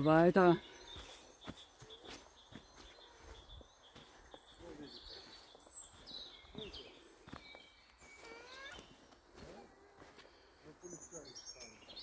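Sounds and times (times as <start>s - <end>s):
faint birdsong chirps: 0.0s - 12.0s
footsteps on forest path: 0.0s - 12.0s.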